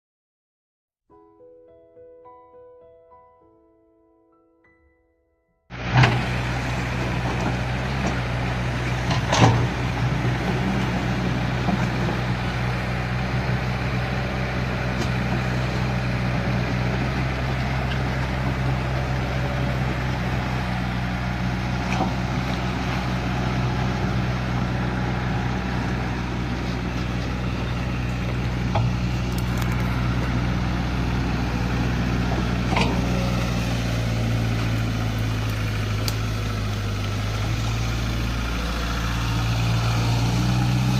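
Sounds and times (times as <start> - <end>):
excavator diesel engine running: 5.7 - 40.9.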